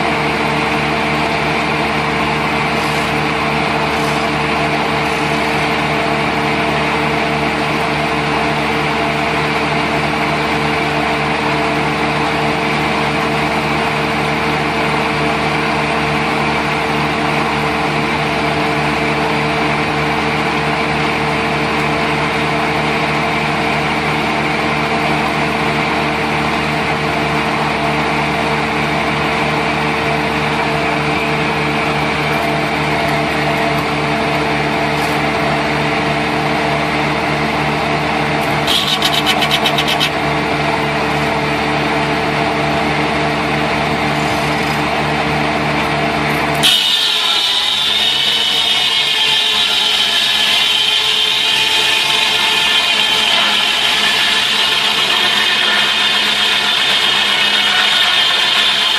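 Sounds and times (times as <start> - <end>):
motor humming steadily: 0.0 - 58.9.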